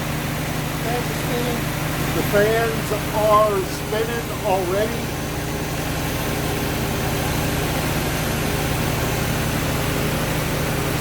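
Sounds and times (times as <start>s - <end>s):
car engine idling: 0.0s - 11.0s
radiator cooling fans running: 0.0s - 11.0s.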